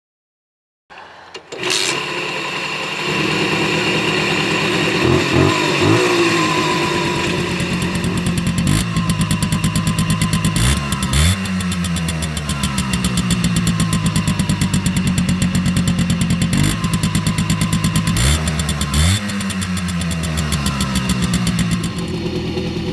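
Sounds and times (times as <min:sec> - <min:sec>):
moped engine running: 0:01.0 - 0:22.9.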